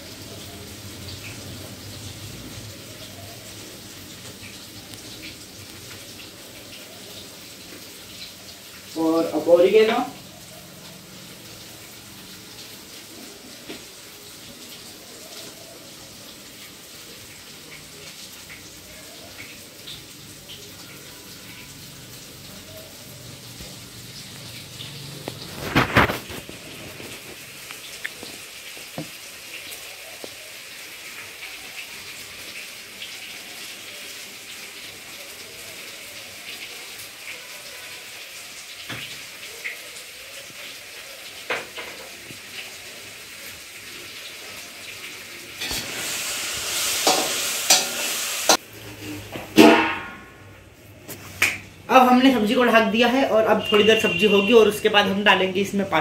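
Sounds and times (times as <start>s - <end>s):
vegetables sizzling in a pan: 0.0s - 56.0s.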